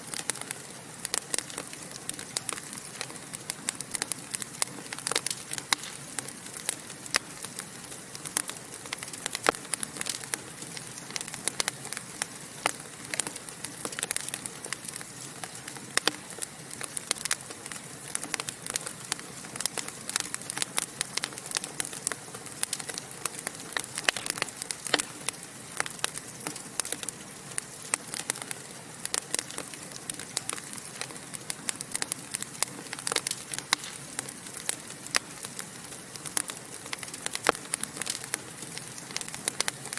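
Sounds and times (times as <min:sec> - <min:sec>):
wood logs crackling in fireplace: 0:00.0 - 0:39.9.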